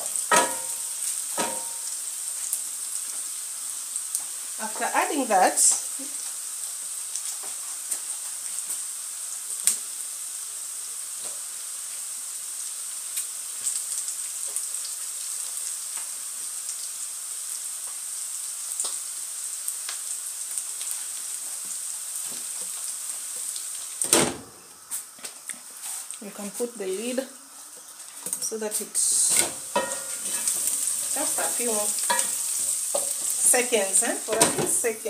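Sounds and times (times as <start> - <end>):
food sizzling with pops: 0.0 - 35.0.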